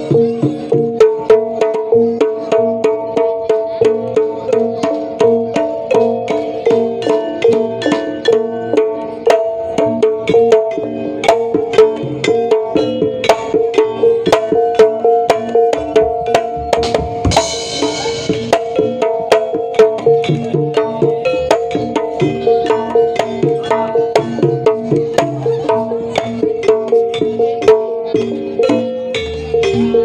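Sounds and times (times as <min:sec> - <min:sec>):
hand drums in brisk rhythm: 0:00.0 - 0:30.0
tuned metal percussion ringing: 0:00.0 - 0:30.0.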